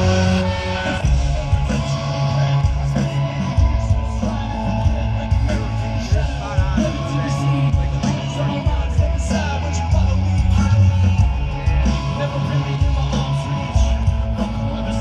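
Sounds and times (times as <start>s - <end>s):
distorted guitar: 0.0s - 15.0s
live rock band playing: 0.0s - 15.0s.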